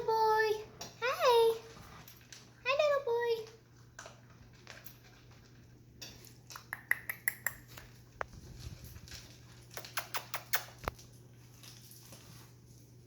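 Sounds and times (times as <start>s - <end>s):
puppies' claws clicking and tapping: 0.5s - 13.0s.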